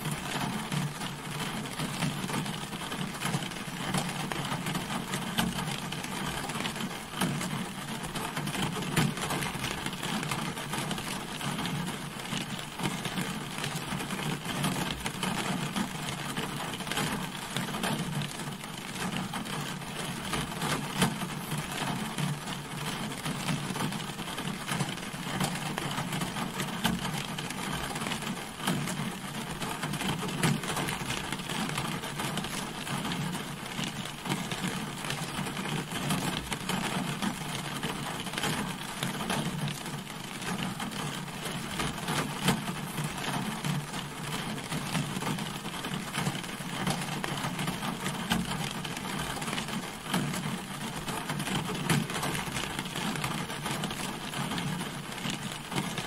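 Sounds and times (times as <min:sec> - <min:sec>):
rain falling on a car: 0:00.0 - 0:56.0.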